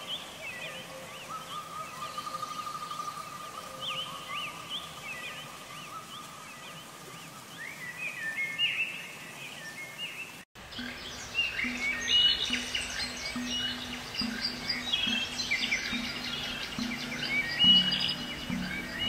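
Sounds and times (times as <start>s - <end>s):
birds chirping: 0.0s - 19.0s
steady hiss: 0.0s - 19.0s.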